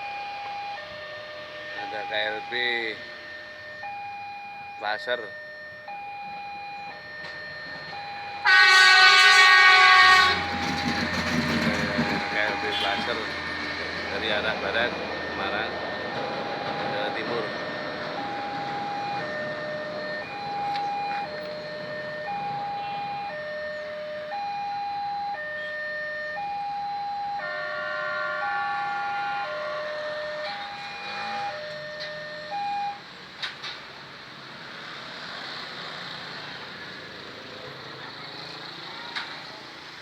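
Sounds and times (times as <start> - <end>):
two-tone crossing alarm: 0.0 - 33.0.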